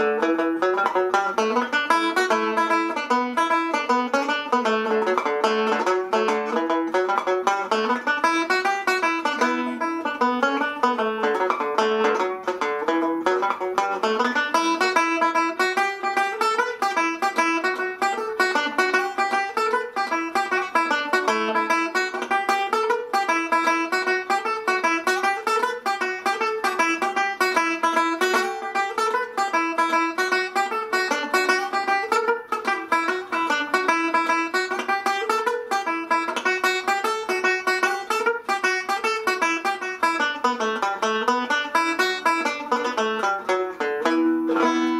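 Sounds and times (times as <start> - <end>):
banjo playing a reel: 0.0 - 44.9.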